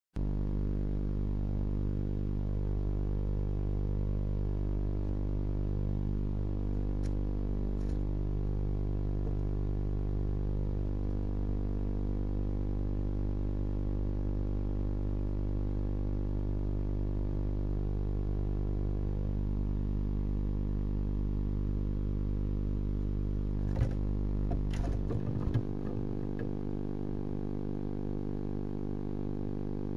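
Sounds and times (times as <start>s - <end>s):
low electrical hum: 0.2s - 29.9s.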